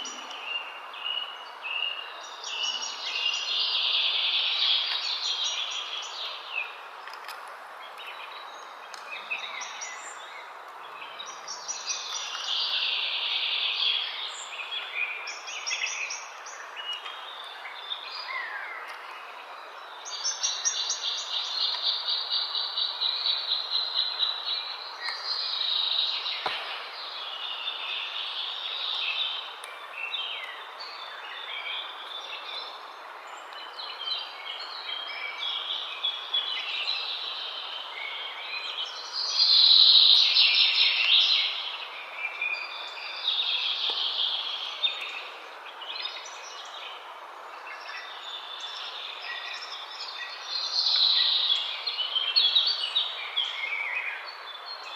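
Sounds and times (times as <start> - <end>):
birds chirping and singing: 0.0 - 54.9
steady outdoor hiss: 0.0 - 54.9.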